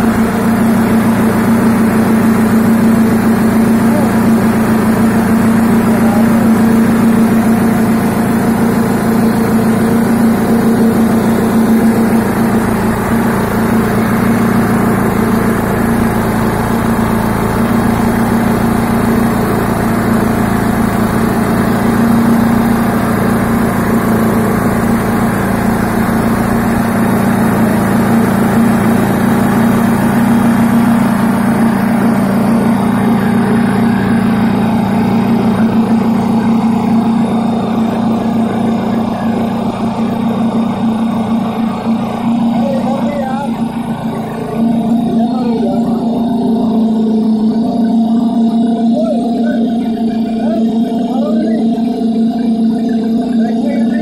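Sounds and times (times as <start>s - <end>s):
concrete vibrator humming: 0.0s - 54.0s.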